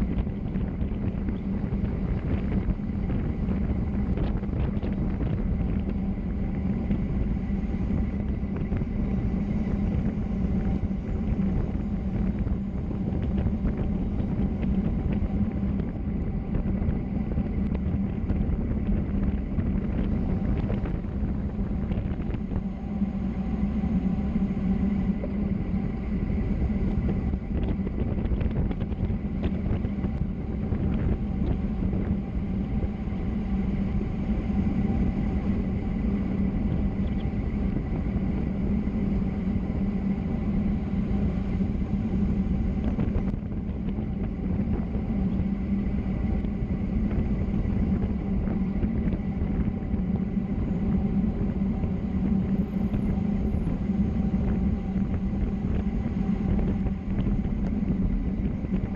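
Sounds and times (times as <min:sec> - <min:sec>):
low hum: 0:00.0 - 0:58.9.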